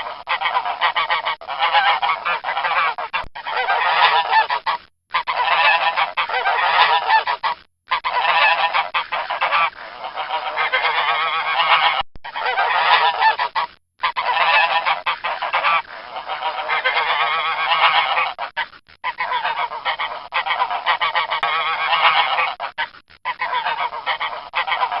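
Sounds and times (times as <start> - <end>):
geese honking: 0.0 - 25.0.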